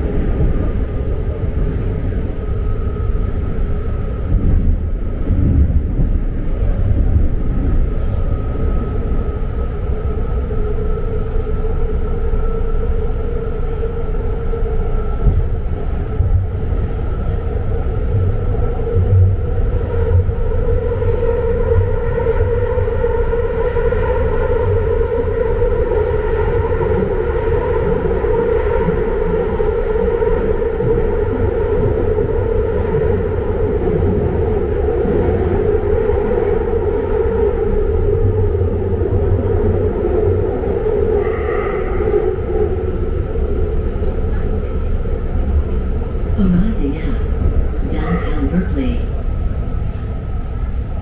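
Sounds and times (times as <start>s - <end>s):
high train whine: 0.0s - 51.0s
train rumbling on rails: 0.0s - 51.0s.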